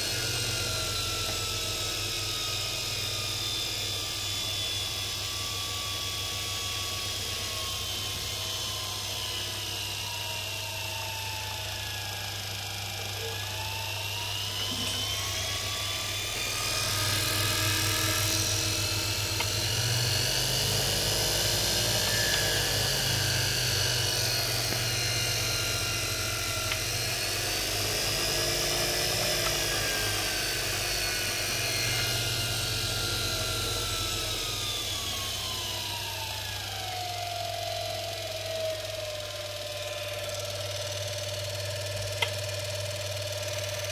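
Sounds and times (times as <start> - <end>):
electric motor whining: 0.0 - 43.9.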